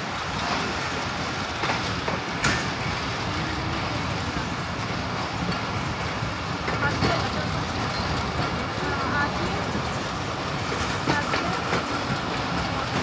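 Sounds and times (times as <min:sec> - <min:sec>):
train running on track: 0:00.0 - 0:13.0.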